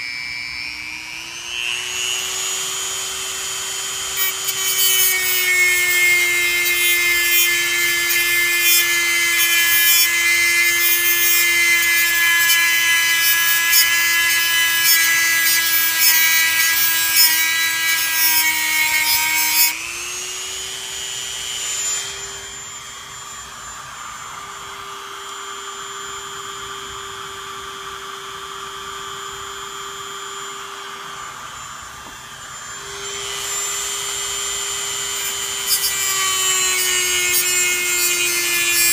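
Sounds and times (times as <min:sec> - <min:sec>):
rotary tool grinding metal: 0:00.0 - 0:27.6, 0:28.2 - 0:38.9.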